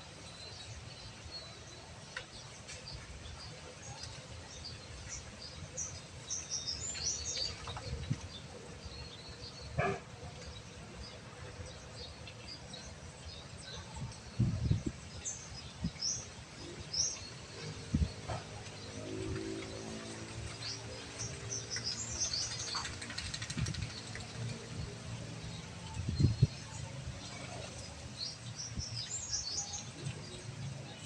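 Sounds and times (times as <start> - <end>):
small birds chirping: 0.3 - 31.0.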